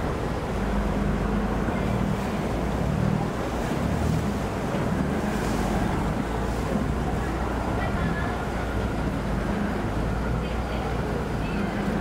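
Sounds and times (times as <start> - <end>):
boat engine idling: 0.0 - 12.0
water washing: 0.0 - 12.0.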